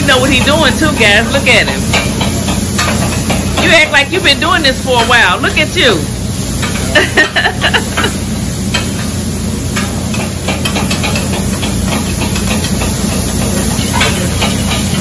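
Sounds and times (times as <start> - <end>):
steak sizzling on a griddle: 0.0 - 15.0.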